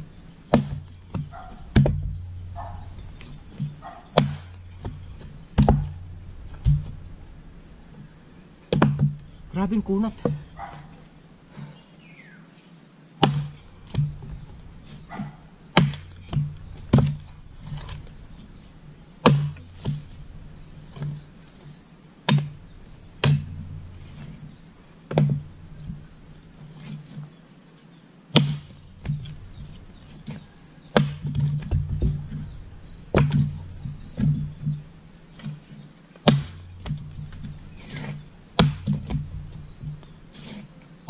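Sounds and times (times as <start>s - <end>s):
axe chopping a log: 0.0s - 7.2s, 8.7s - 10.9s, 13.2s - 21.3s, 22.2s - 26.1s, 28.3s - 40.6s.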